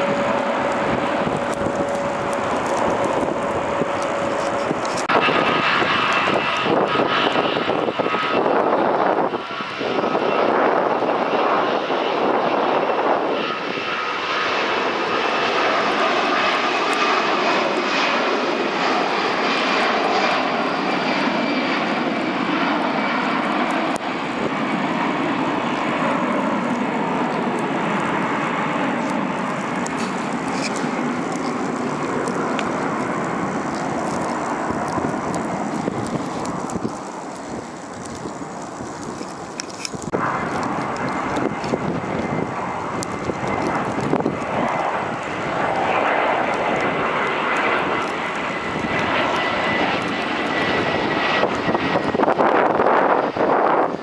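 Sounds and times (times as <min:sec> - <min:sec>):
airliner engines rushing: 0:00.0 - 0:54.0.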